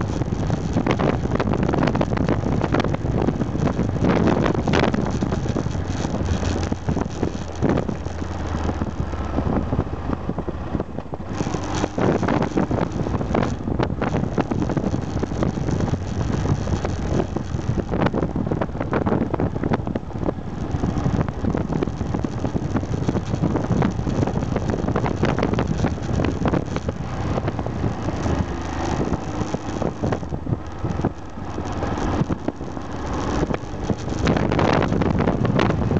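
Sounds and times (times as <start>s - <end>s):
motorcycle engine running: 0.0s - 35.9s
wind buffeting on microphone: 0.0s - 35.9s.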